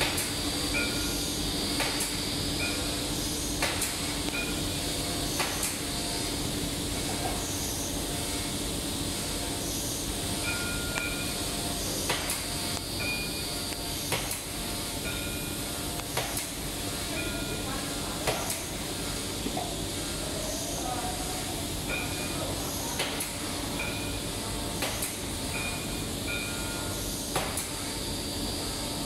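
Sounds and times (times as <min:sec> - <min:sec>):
machinery hum and hiss: 0:00.0 - 0:29.0.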